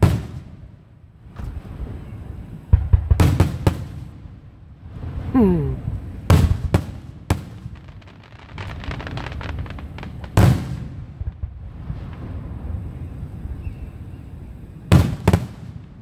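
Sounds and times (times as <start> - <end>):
firecrackers crackling: 0.0 - 0.7, 1.3 - 4.2, 6.1 - 16.0
fireworks bangs: 0.0 - 4.3, 6.2 - 16.0.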